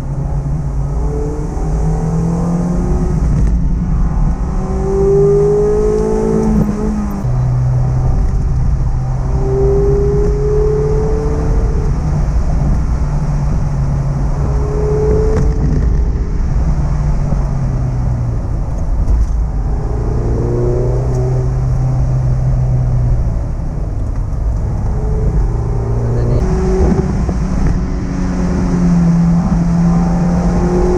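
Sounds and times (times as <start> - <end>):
car engine accelerating: 0.0 - 30.9
road rumble: 0.0 - 30.9.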